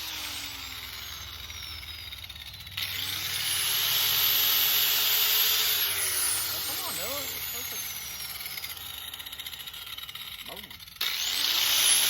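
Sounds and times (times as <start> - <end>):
angle grinder whining: 0.0 - 12.0.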